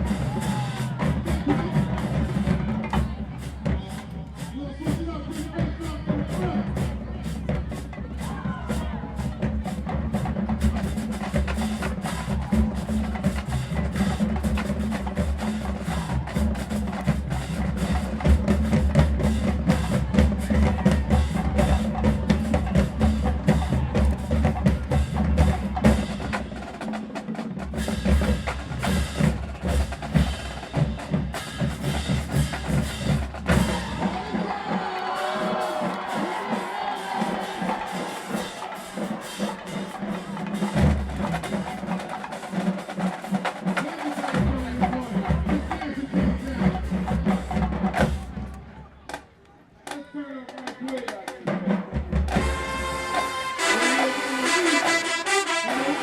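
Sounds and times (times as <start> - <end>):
snare drums: 0.0 - 56.0.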